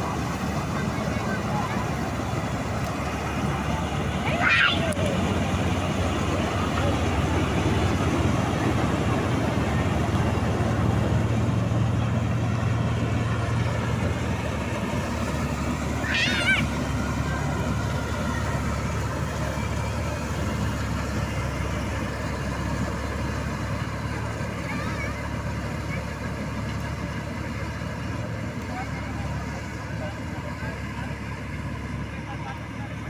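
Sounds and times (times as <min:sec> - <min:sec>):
combine harvester droning: 0:00.0 - 0:33.0.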